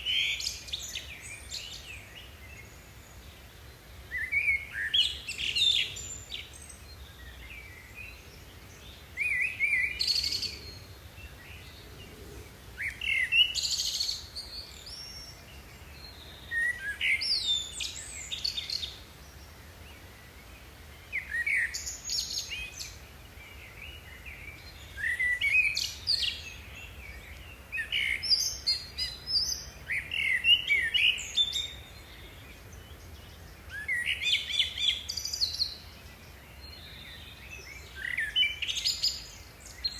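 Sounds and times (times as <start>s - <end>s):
songbird singing chirpy phrases: 0.0s - 39.9s.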